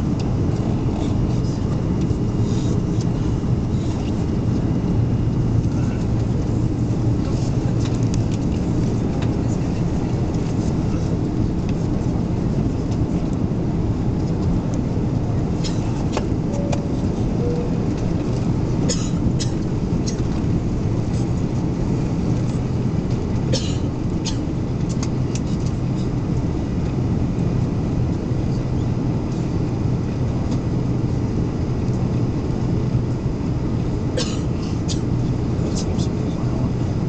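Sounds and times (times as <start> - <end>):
low hum: 0.0 - 34.1
airliner cabin engine roar: 0.0 - 37.0.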